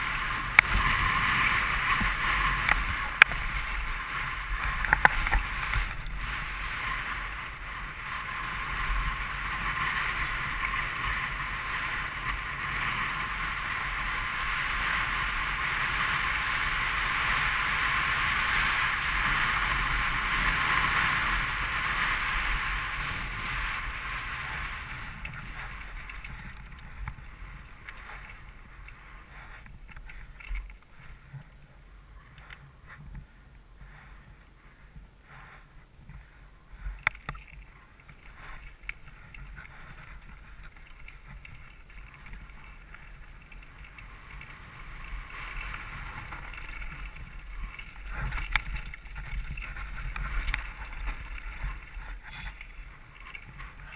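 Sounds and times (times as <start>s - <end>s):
bike rattling: 0.0s - 53.9s.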